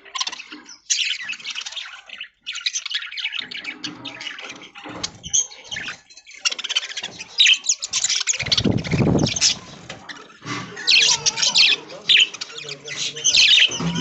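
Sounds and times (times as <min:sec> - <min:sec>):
budgerigars chattering: 0:00.0 - 0:14.0.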